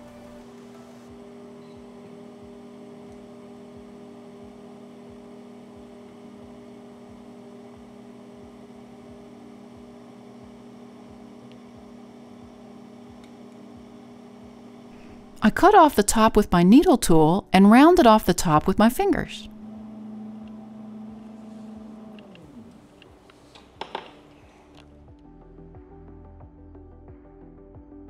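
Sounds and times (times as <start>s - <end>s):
potter's wheel motor hum: 0.0s - 24.9s.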